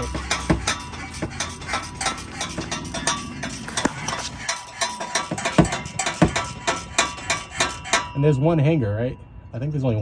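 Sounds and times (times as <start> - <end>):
wrench clicking: 0.0 - 8.2
heavy metallic knocks: 0.0 - 8.4.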